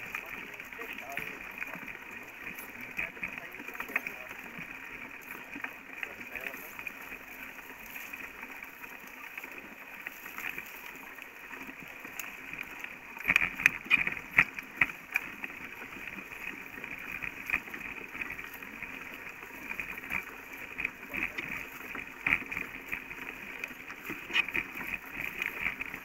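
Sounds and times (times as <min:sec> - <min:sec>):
bike rolling rattle on dirt: 0:00.0 - 0:26.0.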